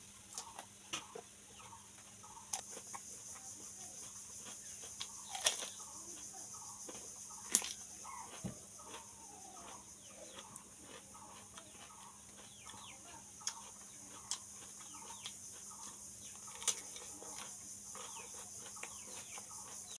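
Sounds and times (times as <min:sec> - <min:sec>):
crunching raw cucumber: 0:00.2 - 0:20.0
chickens clucking: 0:00.4 - 0:20.0.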